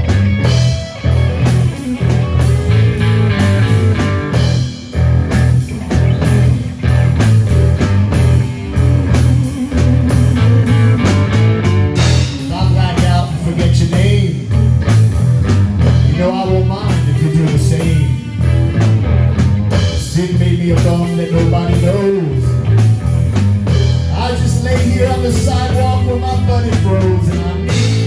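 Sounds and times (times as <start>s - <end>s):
lead electric guitar fills: 0.0s - 28.0s
rock band playing: 0.0s - 28.0s.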